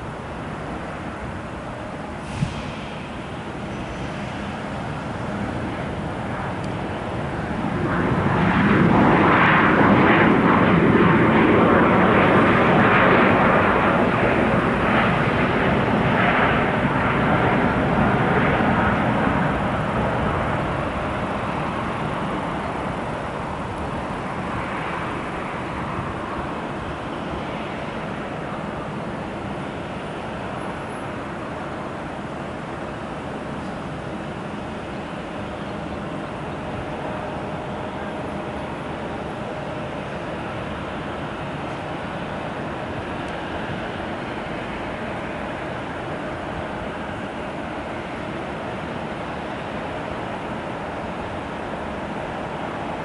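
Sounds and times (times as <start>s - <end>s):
jet airliner engines passing: 0.0s - 53.0s.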